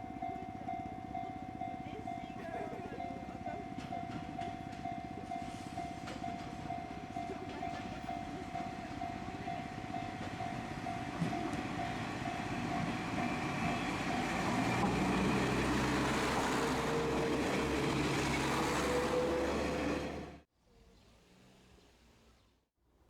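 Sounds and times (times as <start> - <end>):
level crossing warning bell: 0.0 - 20.3
diesel train passing: 0.0 - 20.5.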